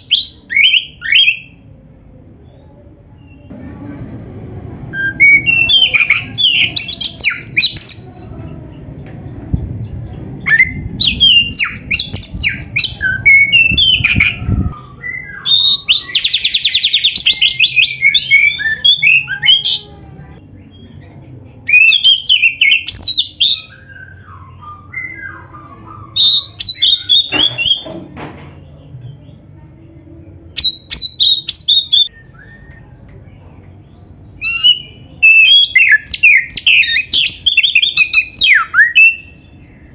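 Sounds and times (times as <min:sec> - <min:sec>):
bird singing whistles and chatter: 0:00.0 - 0:27.9, 0:28.6 - 0:33.1, 0:33.9 - 0:39.9.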